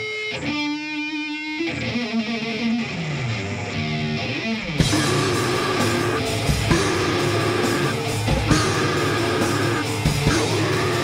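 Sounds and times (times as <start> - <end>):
electric guitar through amplifier: 0.0 - 11.0
rock band with distorted guitar: 0.0 - 11.0.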